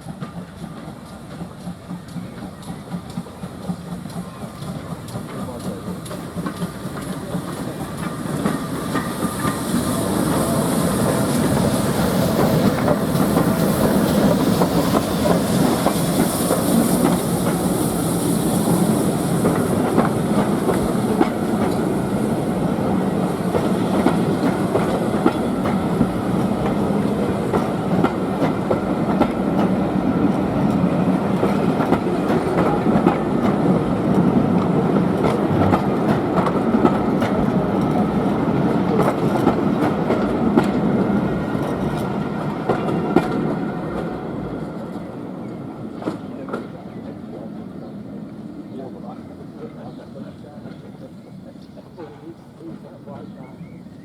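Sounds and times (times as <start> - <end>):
train wheels clicking over rail joints: 0.0 - 47.4.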